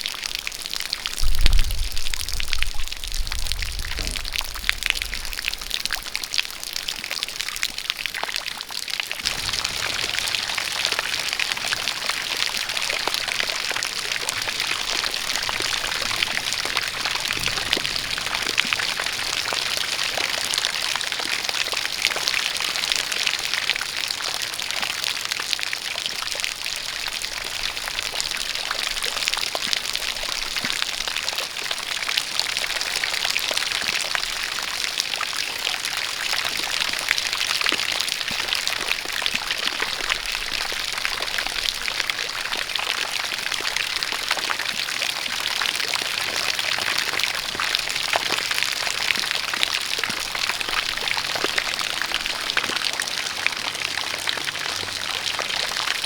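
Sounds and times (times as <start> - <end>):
rain falling: 0.0 - 56.0
water pouring and splashing: 0.0 - 56.0.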